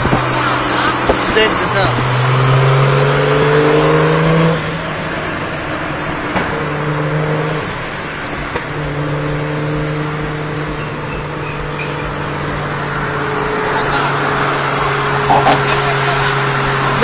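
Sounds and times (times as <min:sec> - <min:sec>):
car engine accelerating hard: 0:00.0 - 0:17.0
engine drone: 0:00.0 - 0:17.0
road noise: 0:00.0 - 0:17.0.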